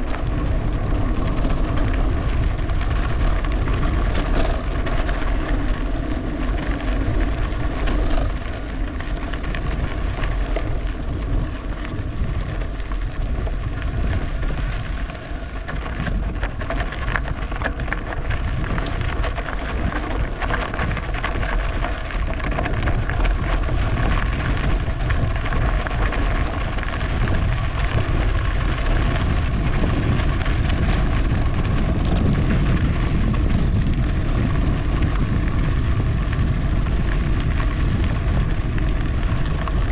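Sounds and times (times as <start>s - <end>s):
bicycle tyre and drivetrain noise: 0.0s - 39.9s
wind rumble on microphone: 0.0s - 39.9s.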